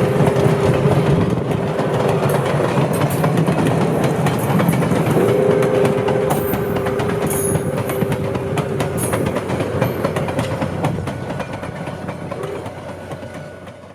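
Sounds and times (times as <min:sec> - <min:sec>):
train cars rolling: 0:00.0 - 0:13.9
wheels clicking over rail joints: 0:00.0 - 0:13.9.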